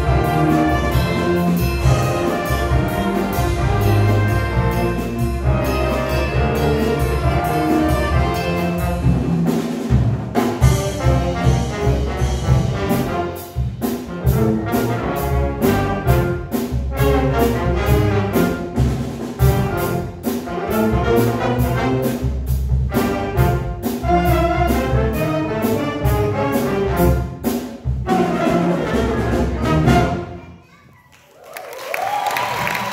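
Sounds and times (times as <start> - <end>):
brass accents: 0.0 - 30.6
jazz big band playing: 0.0 - 30.6.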